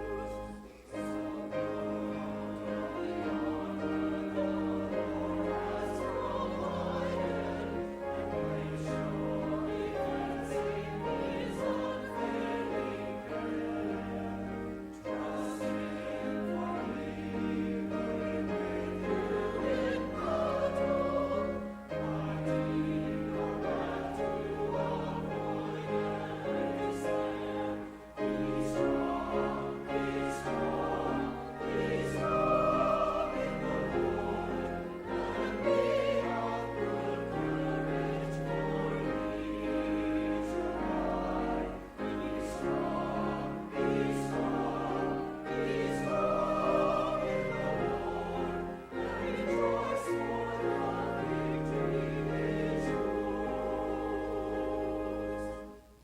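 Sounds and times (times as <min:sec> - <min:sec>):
choir singing: 0:00.0 - 0:56.0
instrumental accompaniment: 0:00.0 - 0:56.0.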